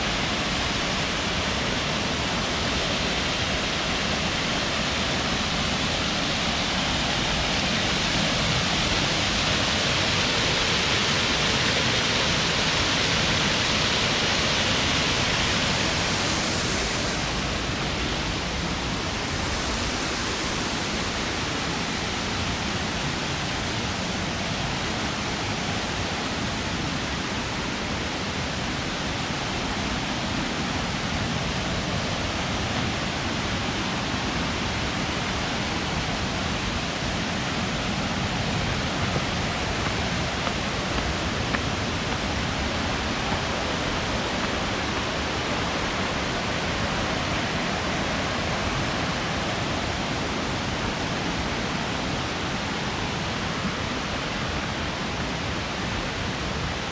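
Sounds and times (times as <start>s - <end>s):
waterfall roaring: 0.0s - 56.9s.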